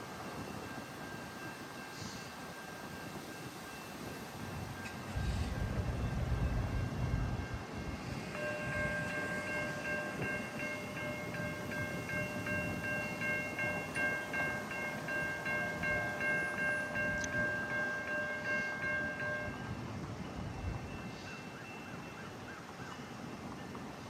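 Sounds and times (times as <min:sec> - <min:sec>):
railroad crossing bell ringing: 0:00.0 - 0:24.0.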